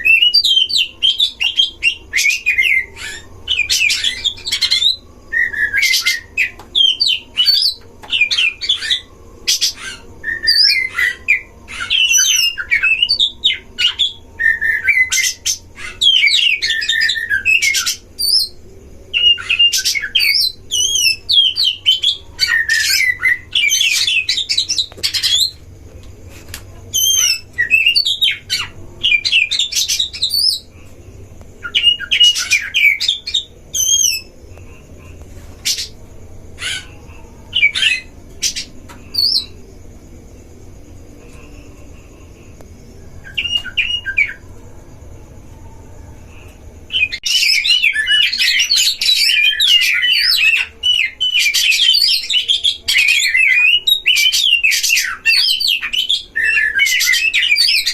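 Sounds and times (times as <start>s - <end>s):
birds singing whistled phrases: 0.0s - 25.6s, 26.9s - 30.8s, 31.6s - 34.4s, 35.5s - 39.7s, 43.2s - 44.5s, 46.9s - 57.9s.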